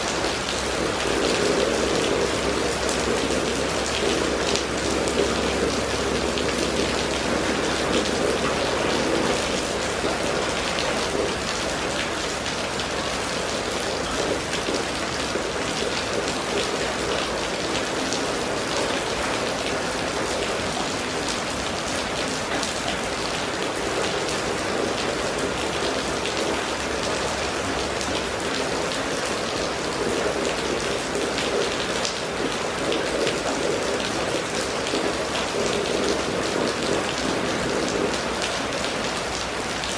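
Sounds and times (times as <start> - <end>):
rain on wet pavement: 0.0 - 39.9.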